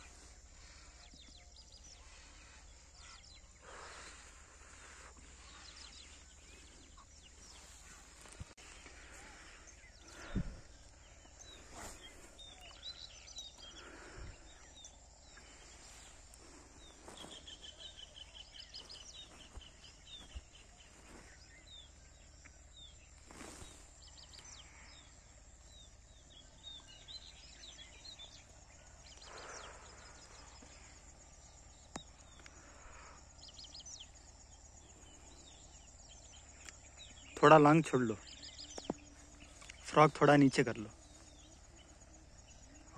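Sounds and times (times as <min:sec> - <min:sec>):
birds chirping and trilling: 0:00.0 - 0:42.9.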